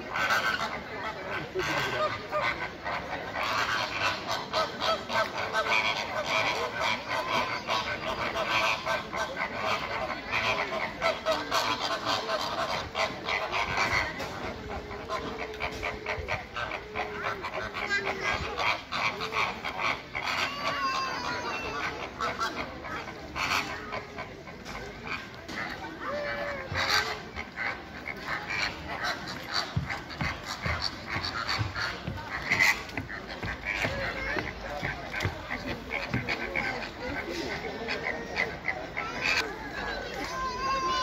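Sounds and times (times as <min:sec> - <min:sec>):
flamingos honking: 0:00.0 - 0:41.0.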